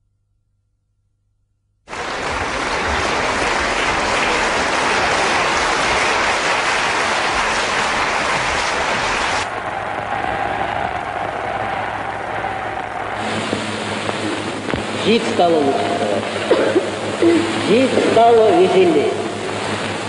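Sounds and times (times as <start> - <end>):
audience applauding: 1.9 - 20.0.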